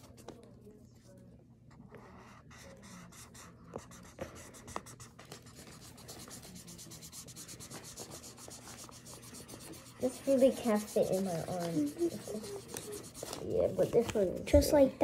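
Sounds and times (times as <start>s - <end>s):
marker scribbling on paper: 1.9s - 14.7s.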